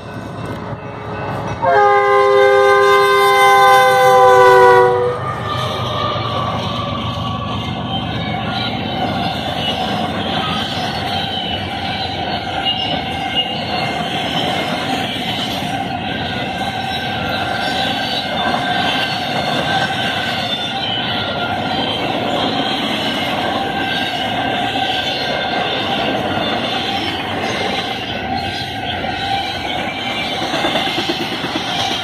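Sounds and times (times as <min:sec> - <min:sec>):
high wheel squeal: 0:00.0 - 0:32.0
train wheels rumbling on rail: 0:00.0 - 0:32.0.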